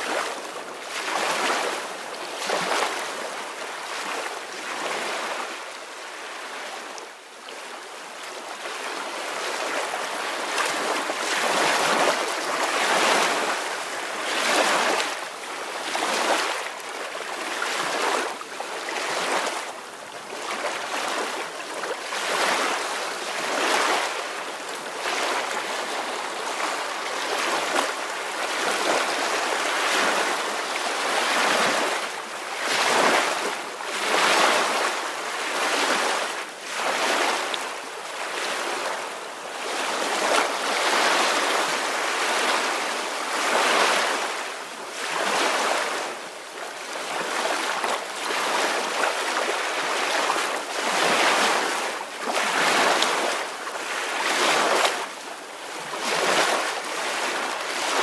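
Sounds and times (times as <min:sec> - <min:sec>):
small ocean waves washing: 0:00.0 - 0:58.0.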